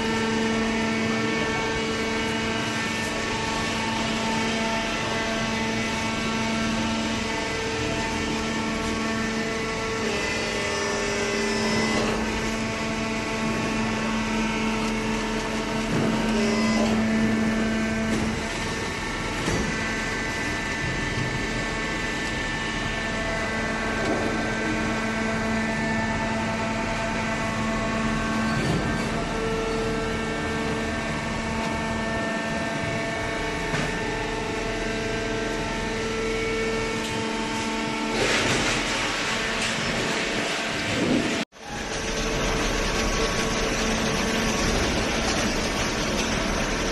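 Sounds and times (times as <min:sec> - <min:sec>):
hydraulic power unit humming: 0:00.0 - 0:46.9.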